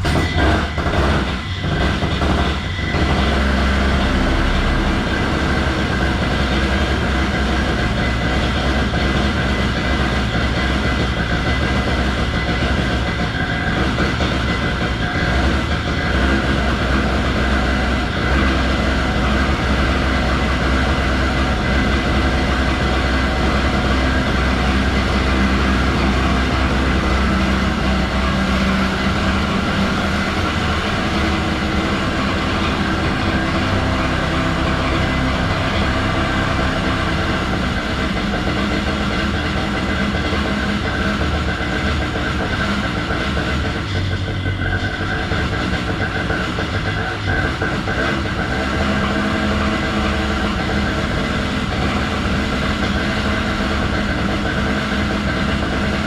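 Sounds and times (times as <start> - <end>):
paramotor engine idling roughly: 0.0 - 56.0.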